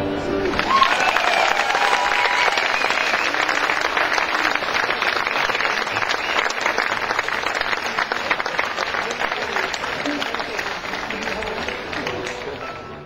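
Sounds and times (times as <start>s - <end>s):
large audience applauding: 0.2s - 13.0s.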